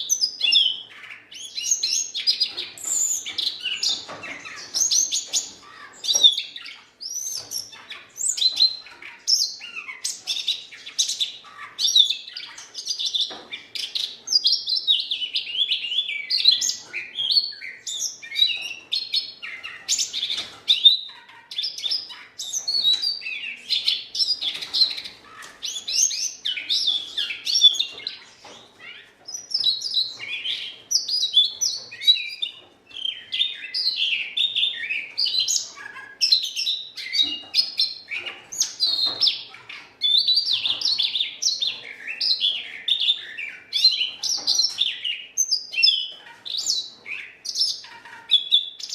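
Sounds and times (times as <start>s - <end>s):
bird singing a warble: 0.0s - 48.9s.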